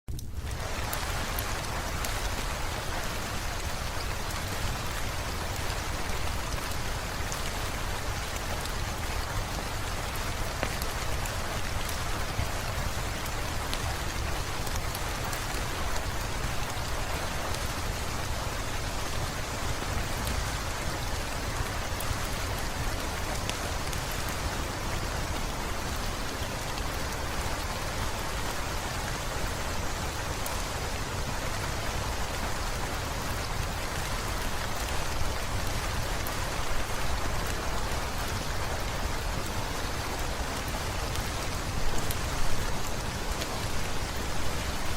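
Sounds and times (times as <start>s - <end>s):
heavy rain falling: 0.1s - 44.9s.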